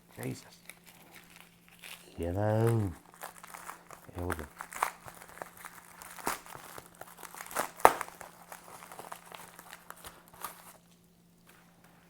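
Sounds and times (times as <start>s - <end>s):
faint electrical hum: 0.0s - 12.0s
packaging crinkling and tearing: 0.1s - 11.1s.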